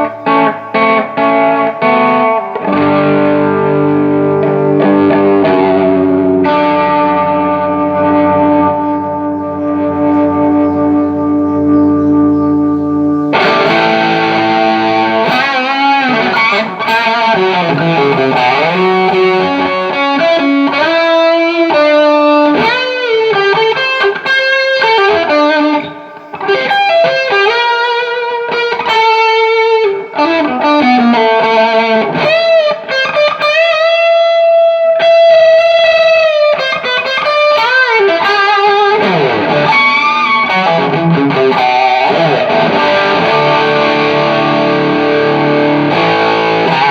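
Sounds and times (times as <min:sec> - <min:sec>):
overdriven electric guitar lead: 0:00.0 - 0:46.9.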